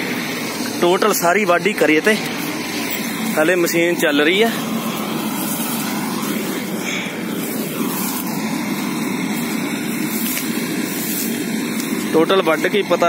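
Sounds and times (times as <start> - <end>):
combine harvester engine drone: 0.0 - 13.0.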